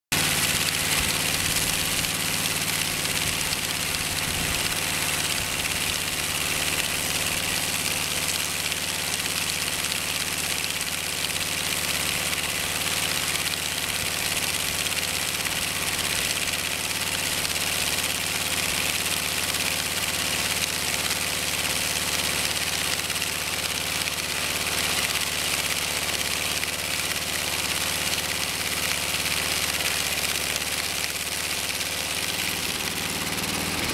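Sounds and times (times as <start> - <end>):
engine hum: 0.1 - 33.9.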